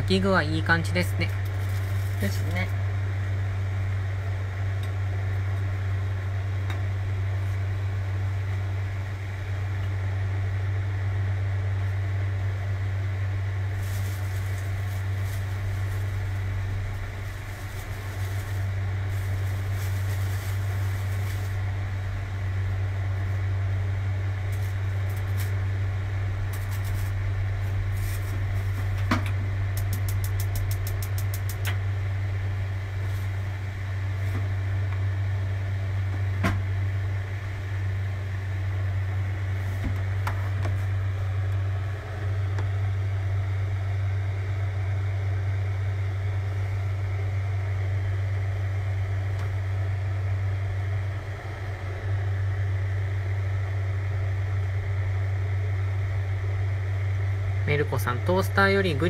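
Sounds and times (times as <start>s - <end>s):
kitchen equipment humming: 0.0s - 59.0s.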